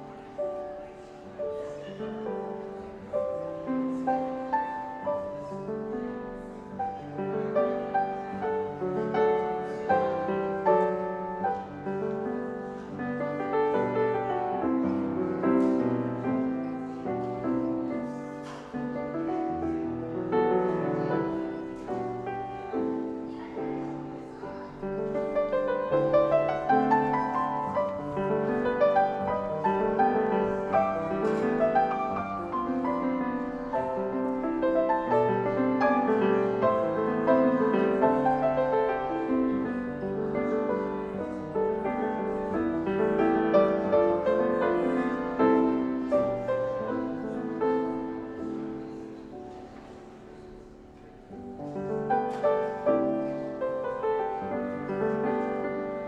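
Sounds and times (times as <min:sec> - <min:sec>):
slow classical piano music: 0:00.0 - 0:56.0.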